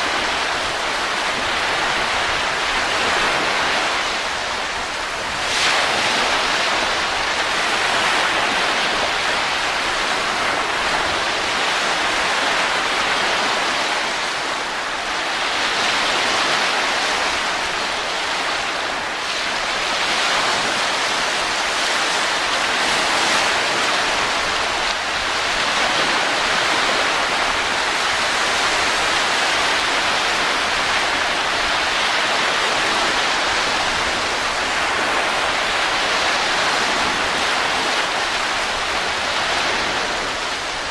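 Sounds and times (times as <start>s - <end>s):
rushing wind: 0.0s - 40.9s.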